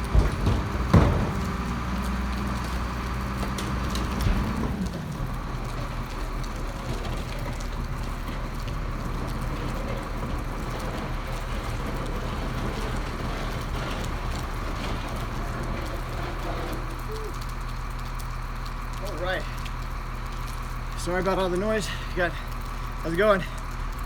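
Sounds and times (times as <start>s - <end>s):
clicks and clatter: 0.0s - 21.0s
garbage truck engine rumble: 0.0s - 24.0s.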